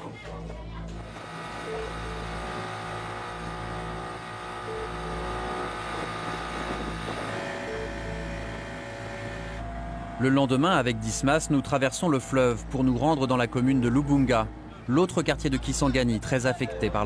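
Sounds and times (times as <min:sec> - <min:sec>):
outboard motor running: 0:00.0 - 0:14.8.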